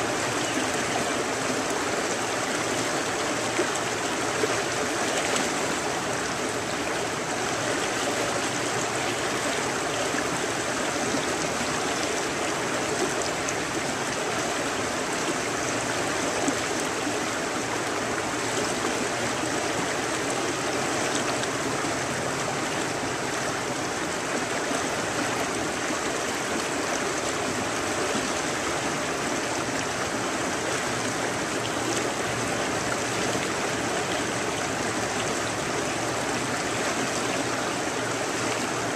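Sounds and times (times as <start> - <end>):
fast river running over riffle: 0.0 - 38.9.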